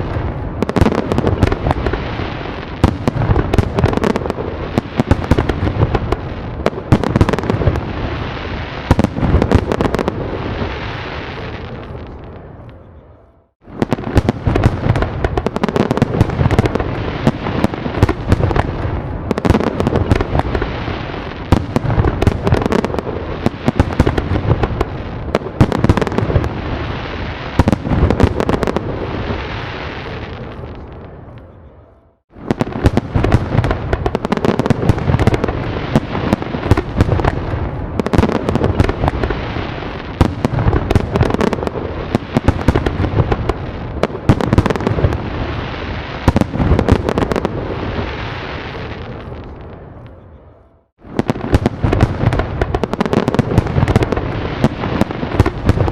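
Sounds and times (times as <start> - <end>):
fireworks cracking and booming: 0.0 - 55.9.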